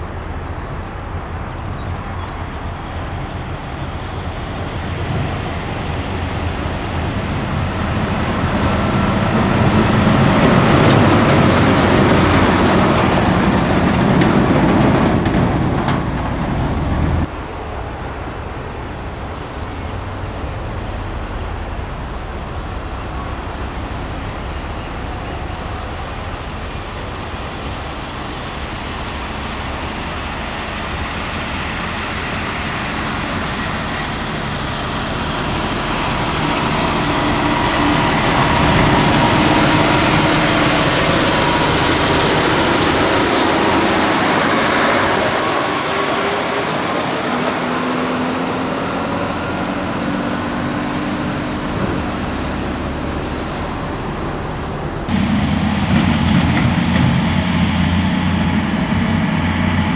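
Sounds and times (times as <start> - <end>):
dump truck diesel engine approaching: 0.0 - 59.9
truck diesel engine passing: 0.0 - 59.9.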